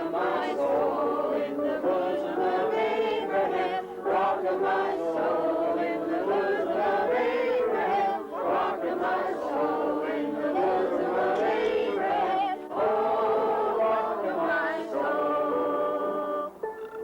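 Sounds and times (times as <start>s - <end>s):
choir singing sustained notes: 0.0s - 17.0s.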